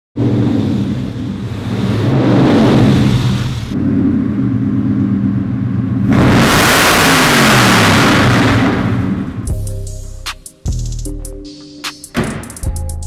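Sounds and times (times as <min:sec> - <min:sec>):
deep car engine running: 0:00.2 - 0:06.5, 0:07.3 - 0:11.5.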